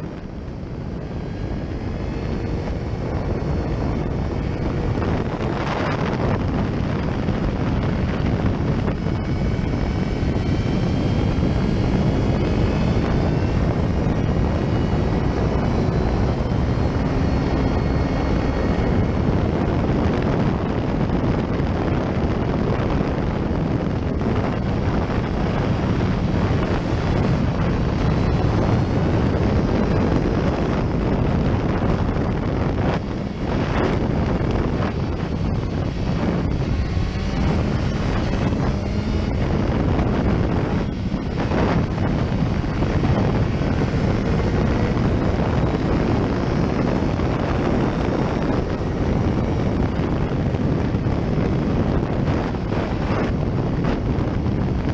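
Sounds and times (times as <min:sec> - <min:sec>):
motorcycle engine running: 0:00.0 - 0:54.9
wind rush on microphone: 0:00.0 - 0:54.9.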